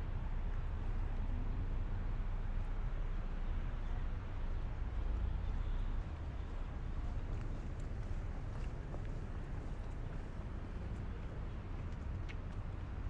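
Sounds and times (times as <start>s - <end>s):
outdoor ambience rumble and hiss: 0.0s - 13.0s.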